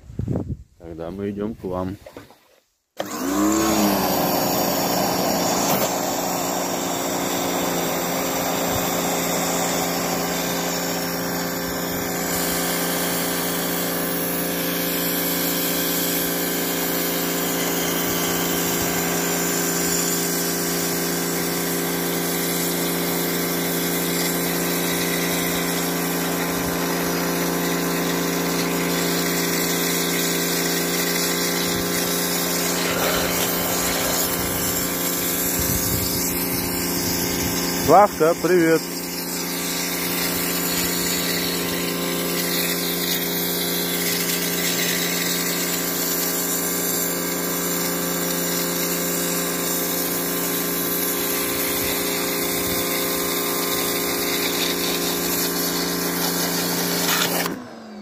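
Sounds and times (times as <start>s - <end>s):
pressure washer motor whine: 3.0s - 58.0s
water spray rushing: 3.3s - 57.6s.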